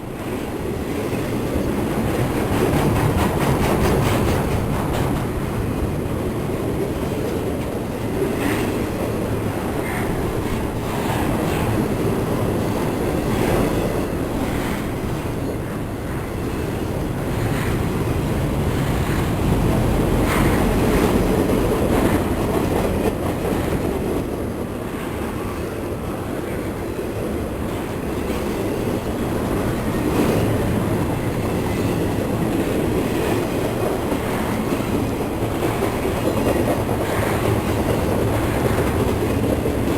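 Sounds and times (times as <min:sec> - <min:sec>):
railcars rolling on track: 0:00.0 - 0:39.9.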